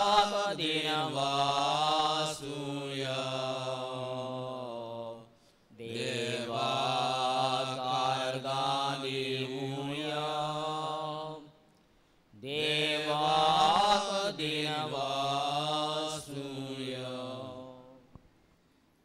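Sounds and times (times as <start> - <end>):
voice chanting a prayer: 0.0 - 11.6, 12.4 - 18.0.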